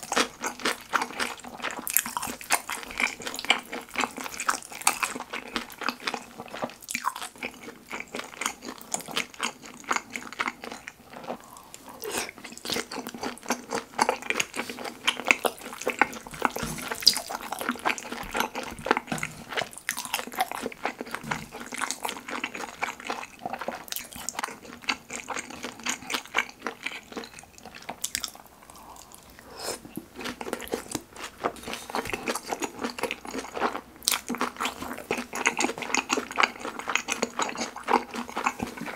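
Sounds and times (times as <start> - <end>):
wet chewing and lip-smacking: 0.0 - 38.9.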